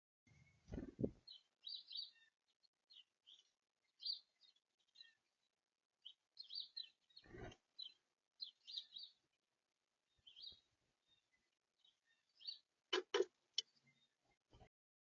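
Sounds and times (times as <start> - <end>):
small birds chirping: 0.3 - 14.7.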